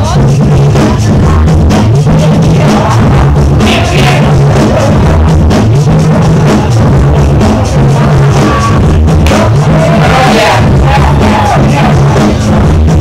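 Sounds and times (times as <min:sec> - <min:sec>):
dance music over loudspeaker: 0:00.0 - 0:13.0.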